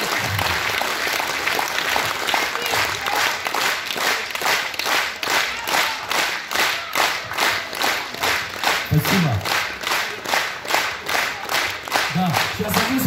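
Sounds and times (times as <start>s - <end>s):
audience clapping in unison: 0.0s - 13.0s.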